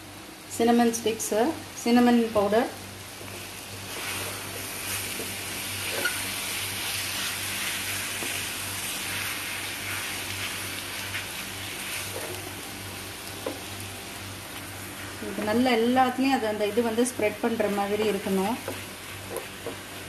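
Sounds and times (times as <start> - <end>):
fruit sizzling in caramel: 0.8 - 20.0.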